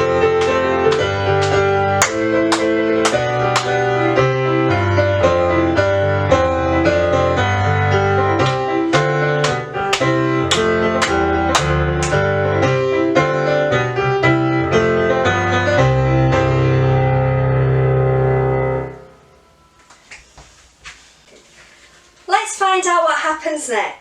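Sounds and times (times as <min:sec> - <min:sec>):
piano music with steady beat: 0:00.0 - 0:21.5.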